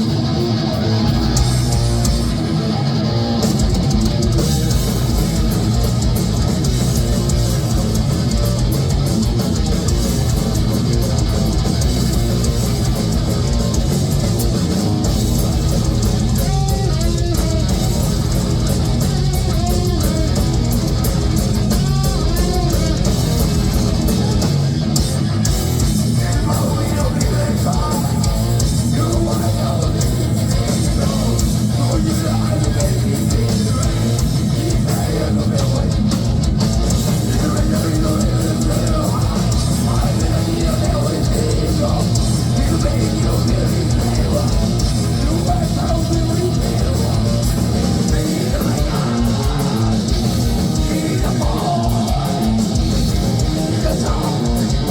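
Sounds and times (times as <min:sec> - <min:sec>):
bass guitar: 0:00.0 - 0:54.9
distorted electric guitars: 0:00.0 - 0:54.9
fast drumming: 0:00.0 - 0:54.9.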